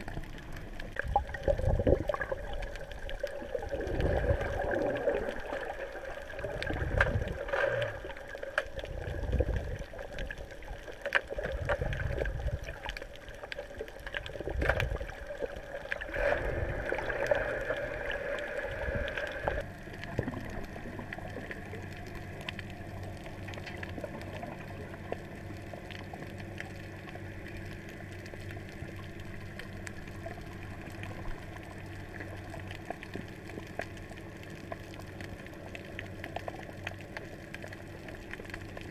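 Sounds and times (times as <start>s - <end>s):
low underwater hum: 0.0s - 38.9s
underwater sloshing and gurgling: 0.0s - 38.9s.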